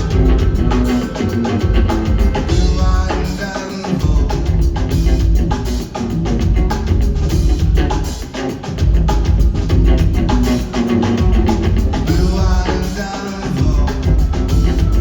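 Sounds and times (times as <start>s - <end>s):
heavy bass line: 0.0s - 8.2s, 8.8s - 15.0s
drum kit beat: 0.0s - 15.0s.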